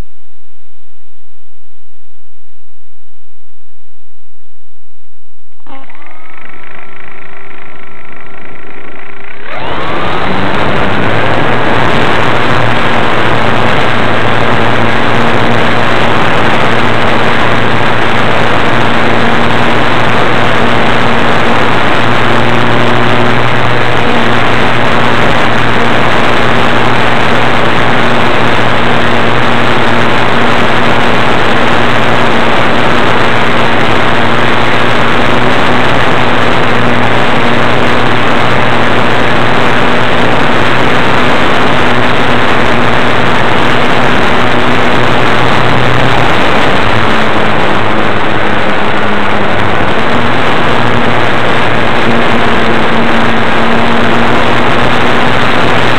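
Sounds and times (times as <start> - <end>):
model airplane motor drone: 5.6 - 55.9
rushing air: 5.6 - 55.9.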